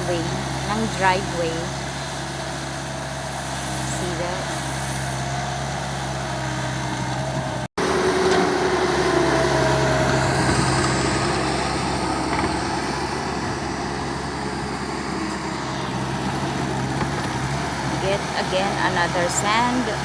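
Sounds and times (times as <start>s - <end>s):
skid steer engine under load: 0.0s - 20.0s.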